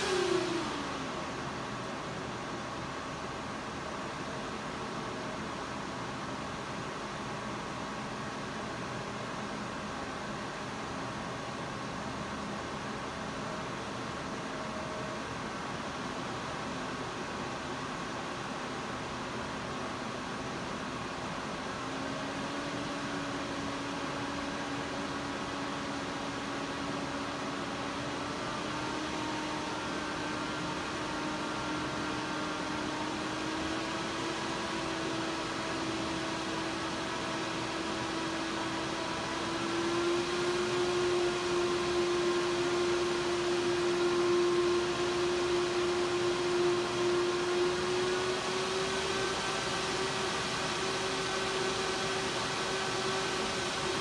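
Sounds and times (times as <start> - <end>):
cooling fans whirring: 0.0 - 54.0.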